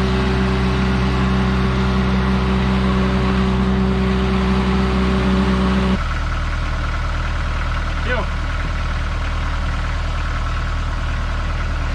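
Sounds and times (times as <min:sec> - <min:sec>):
excavator diesel engine: 0:00.0 - 0:11.9.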